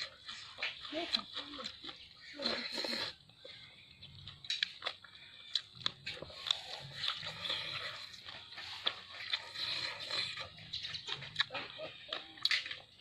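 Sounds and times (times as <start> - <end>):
person chewing with smacking: 0.0 - 13.0.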